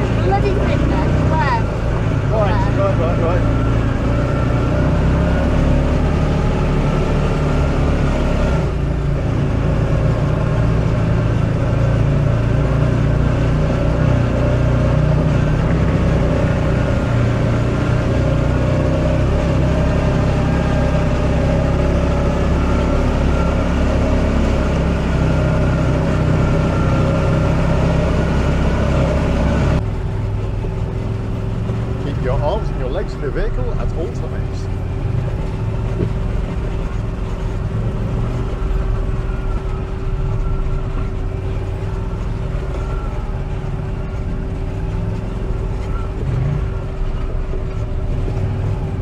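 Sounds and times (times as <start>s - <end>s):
buggy engine humming: 0.0s - 49.0s.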